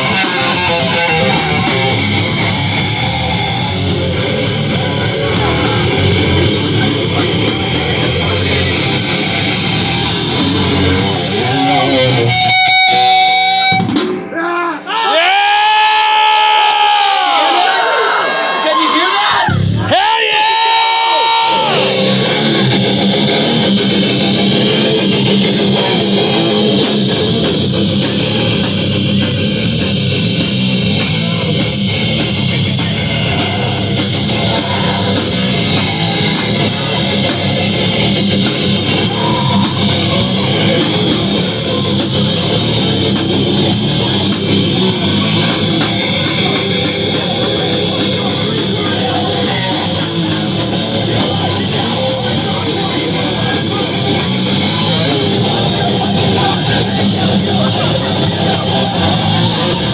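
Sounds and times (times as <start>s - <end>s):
live rock band playing: 0.0s - 14.4s, 17.7s - 59.9s.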